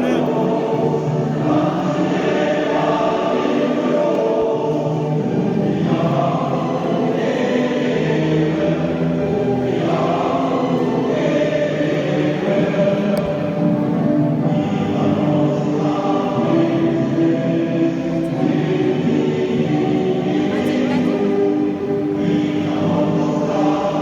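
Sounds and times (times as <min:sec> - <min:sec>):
group singing in unison: 0:00.0 - 0:24.0.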